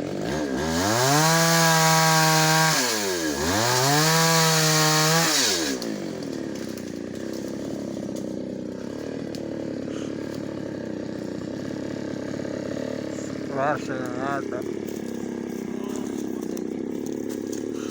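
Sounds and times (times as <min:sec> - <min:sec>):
chainsaw revving and idling: 0:00.0 - 0:17.9.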